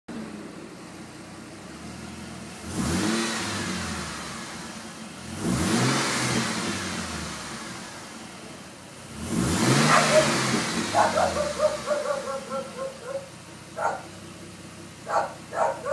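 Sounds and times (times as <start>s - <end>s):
car engine idling and revving: 0.1s - 15.9s.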